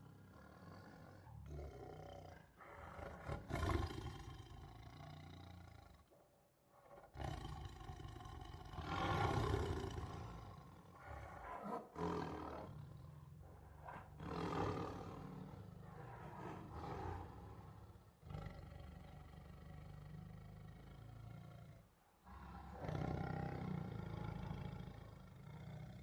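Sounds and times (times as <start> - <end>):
tiger roaring: 0.0 - 5.0, 6.8 - 20.2, 22.3 - 25.0.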